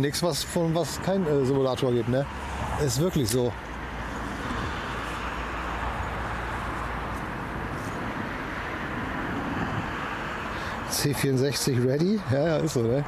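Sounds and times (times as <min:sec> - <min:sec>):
distant road traffic hiss: 0:00.0 - 0:13.0.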